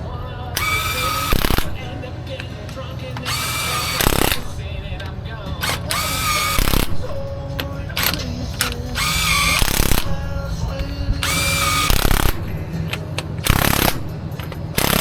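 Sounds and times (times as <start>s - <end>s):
power tool motor whine: 0.6s - 2.1s, 3.2s - 5.0s, 5.6s - 15.0s.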